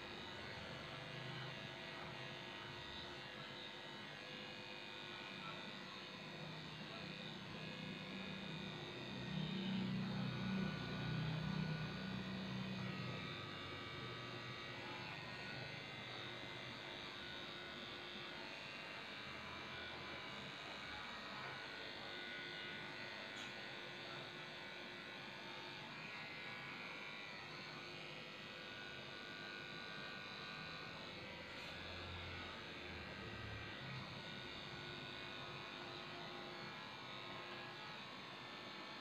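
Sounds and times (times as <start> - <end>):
electric clippers buzzing: 0.0 - 38.8.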